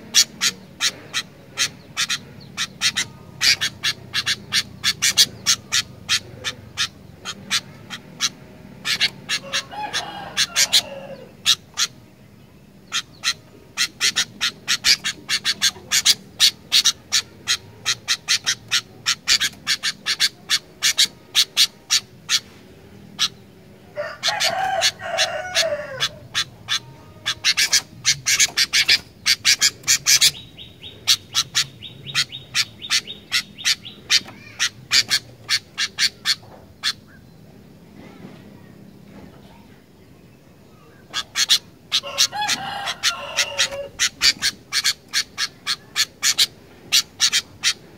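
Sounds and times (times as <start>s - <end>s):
bird harsh chattering: 0.0s - 12.1s, 12.7s - 37.2s, 40.8s - 47.9s
bird chipping: 0.0s - 37.6s, 40.4s - 47.9s.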